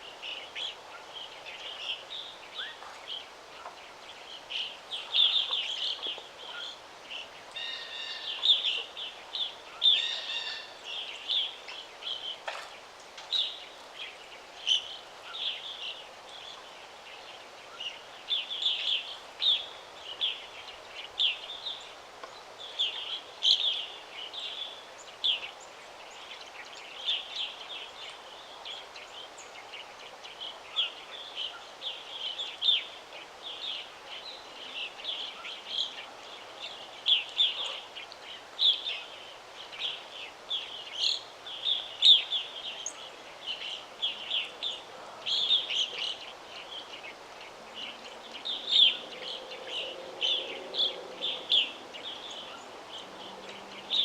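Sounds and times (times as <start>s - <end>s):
birds chirping: 0.0s - 54.0s
faint breeze hiss: 0.0s - 54.0s.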